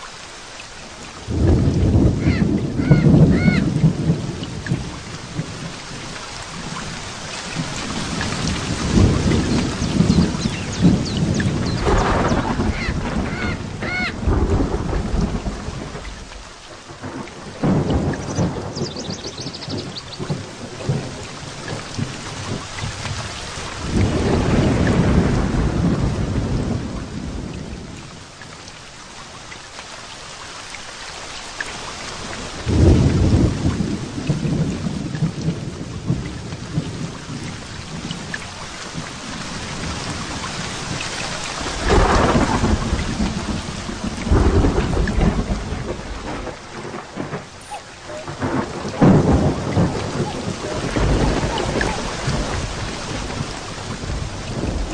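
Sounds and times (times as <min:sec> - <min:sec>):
heavy rain: 0:00.0 - 0:54.9
thunder rumbling: 0:01.2 - 0:28.2, 0:32.3 - 0:54.9.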